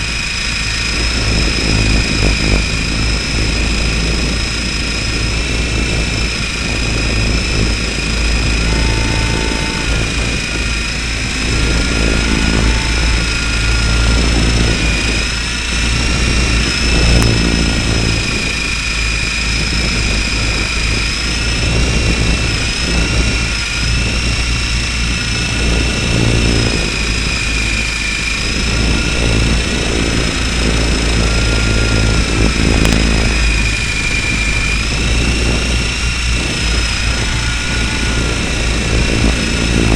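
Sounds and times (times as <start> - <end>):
helicopter motor high whine: 0.0 - 39.9
low rumble: 0.0 - 39.9.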